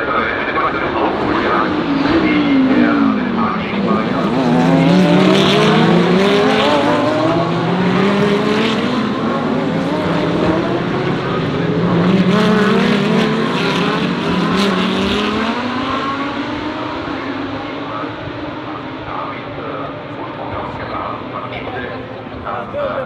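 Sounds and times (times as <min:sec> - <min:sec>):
race cars accelerating: 0:00.0 - 0:23.0.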